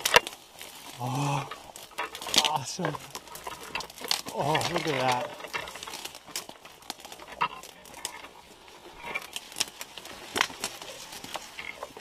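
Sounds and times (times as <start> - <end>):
leaves swishing against clothing: 0.0 - 6.2, 8.4 - 12.0
footsteps through brush: 0.0 - 12.0
twigs snapping: 0.0 - 12.0.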